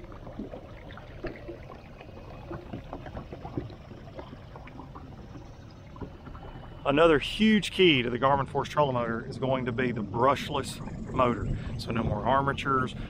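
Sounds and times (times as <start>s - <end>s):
low steady rumble: 0.0s - 13.0s
waves lapping against boat hull: 0.0s - 13.0s.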